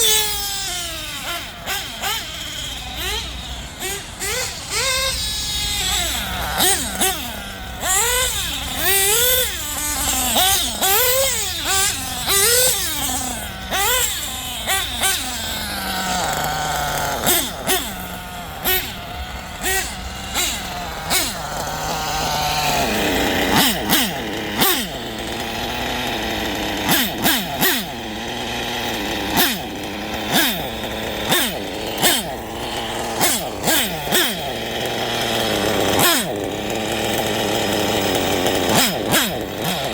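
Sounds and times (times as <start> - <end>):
nitro rc car engine revving: 0.0 - 39.9.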